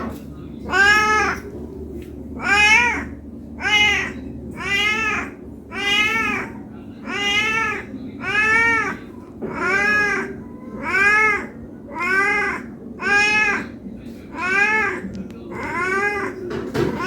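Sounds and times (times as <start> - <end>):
cat meowing: 0.7 - 1.4, 2.4 - 17.0.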